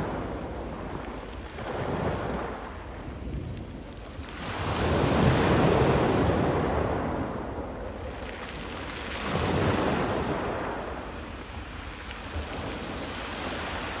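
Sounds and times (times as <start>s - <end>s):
sea waves on stony shore: 0.0s - 14.0s
wind buffeting microphone: 0.0s - 14.0s.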